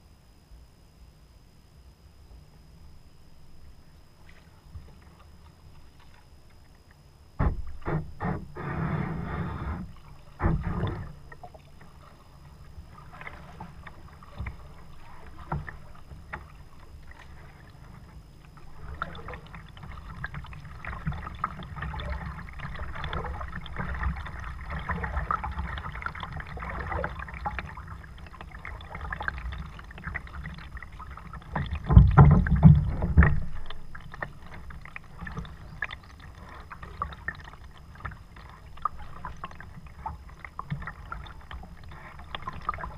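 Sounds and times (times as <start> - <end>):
paddle splashing in water: 7.4 - 42.9.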